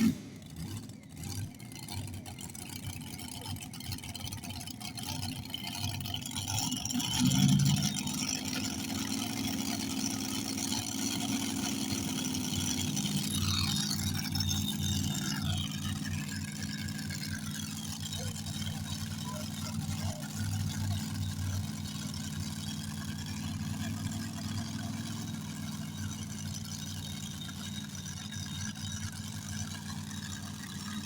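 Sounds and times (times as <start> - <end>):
vehicle engine idling and revving: 0.0 - 31.0.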